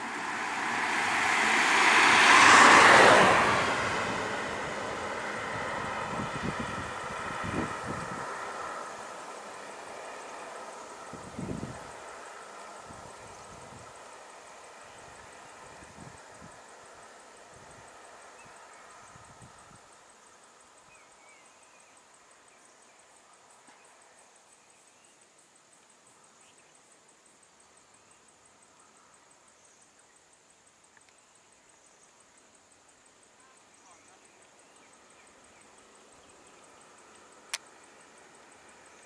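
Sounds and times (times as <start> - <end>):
high insect drone: 0.0 - 39.0
outdoor background hiss: 0.0 - 39.0.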